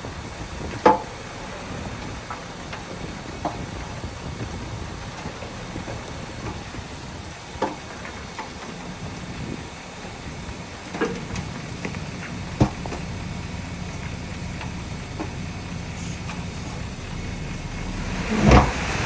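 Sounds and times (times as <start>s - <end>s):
diesel machinery rumble: 0.0s - 19.0s.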